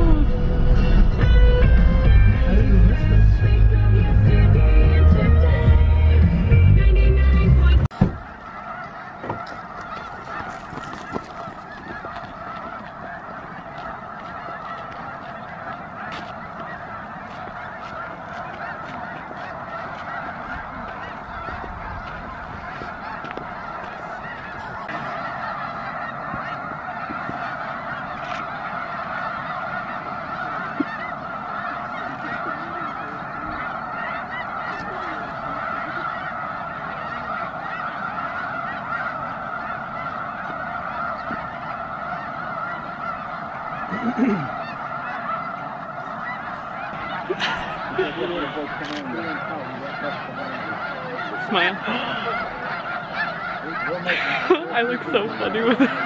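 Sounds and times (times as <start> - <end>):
flock of geese honking: 0.0 - 56.0.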